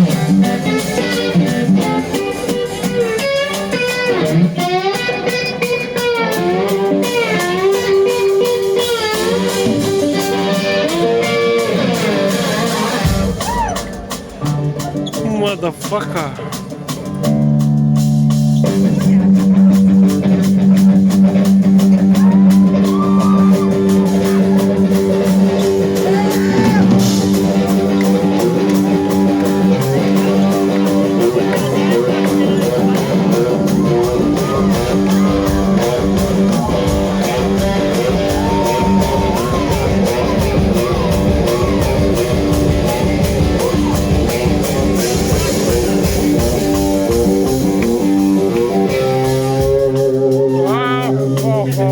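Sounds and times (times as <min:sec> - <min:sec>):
bass guitar: 0:00.0 - 0:51.9
drums: 0:00.0 - 0:51.9
electric guitar: 0:00.0 - 0:51.9.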